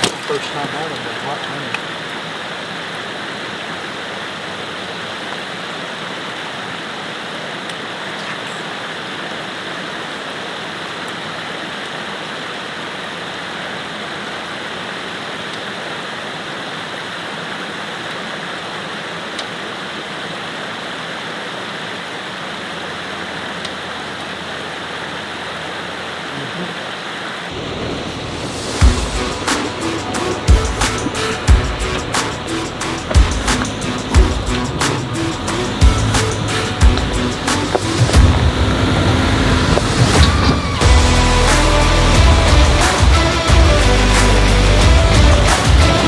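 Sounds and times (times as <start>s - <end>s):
river water pouring over rocks: 0.0s - 46.0s
waterfall rushing: 0.0s - 46.0s.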